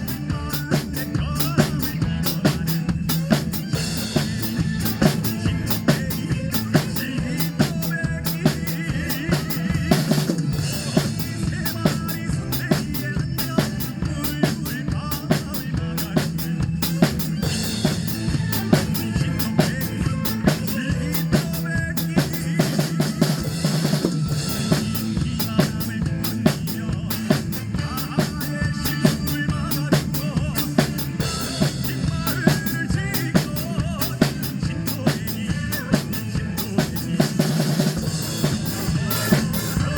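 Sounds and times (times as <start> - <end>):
backing track with vocals: 0.0 - 39.9
drum kit playing fast beat: 0.0 - 39.9.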